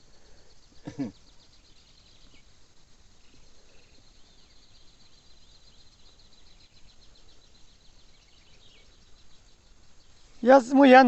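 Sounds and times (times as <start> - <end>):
birds chirping: 0.0 - 11.0
insect trilling: 0.0 - 11.0.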